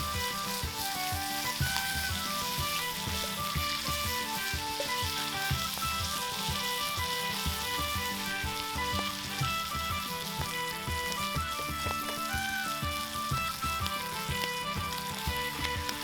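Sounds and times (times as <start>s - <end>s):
bacon and eggs sizzling: 0.0s - 16.0s.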